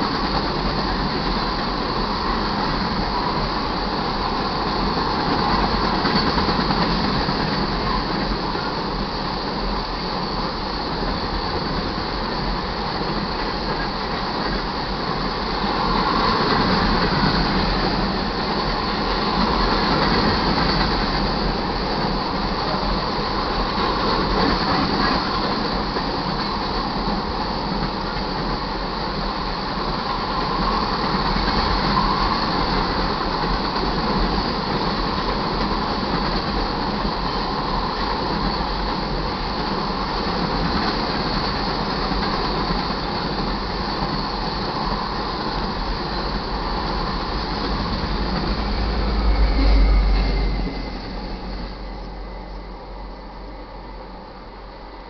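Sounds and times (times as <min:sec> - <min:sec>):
train cars rolling on rails: 0:00.0 - 0:55.0.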